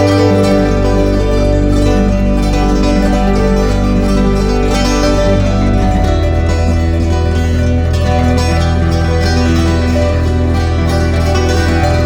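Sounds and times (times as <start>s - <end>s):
deep bass note: 0.0s - 12.0s
plucked strings music: 0.0s - 12.0s
sustained chords: 0.0s - 12.0s.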